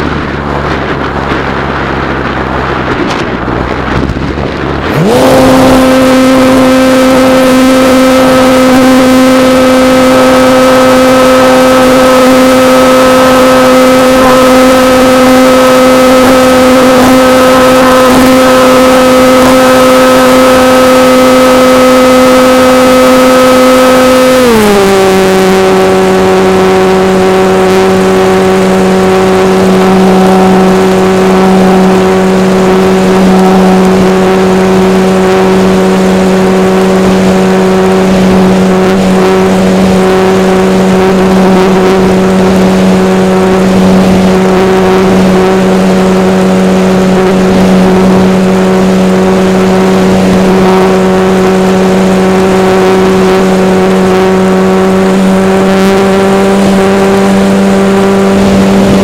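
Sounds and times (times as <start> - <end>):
model airplane engine and propeller: 0.0 - 59.0.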